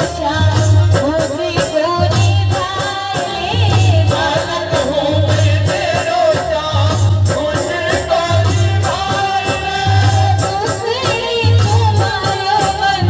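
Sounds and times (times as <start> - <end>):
light percussion: 0.0 - 13.0
low drum beat: 0.0 - 13.0
woman singing through loudspeakers: 0.0 - 13.0.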